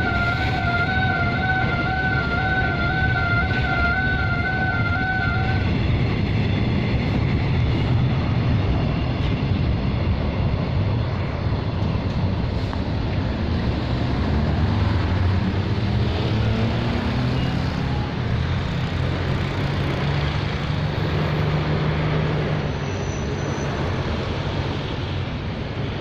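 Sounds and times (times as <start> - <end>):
freight train rumble: 0.0 - 26.0.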